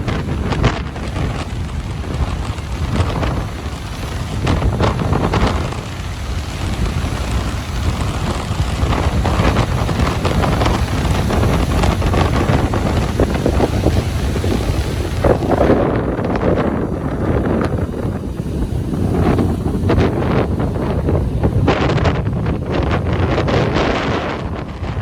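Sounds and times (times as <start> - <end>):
ocean surf washing onto beach: 0.0 - 25.0
wind buffeting microphone: 0.0 - 25.0.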